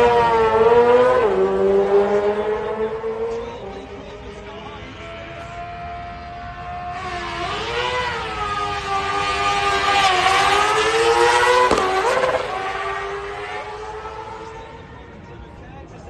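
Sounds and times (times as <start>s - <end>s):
racing engine revving: 0.0s - 14.9s.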